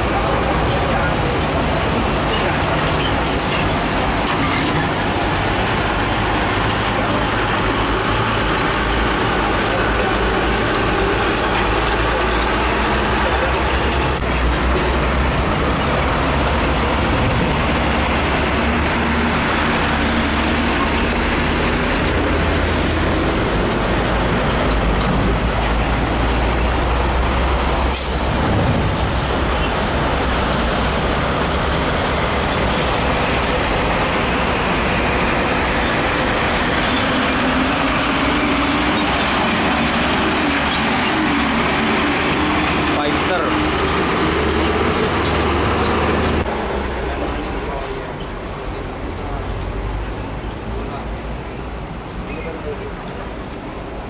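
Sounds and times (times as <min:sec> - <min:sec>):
diesel truck engines rumbling: 0:00.0 - 0:54.0
road traffic: 0:00.0 - 0:54.0.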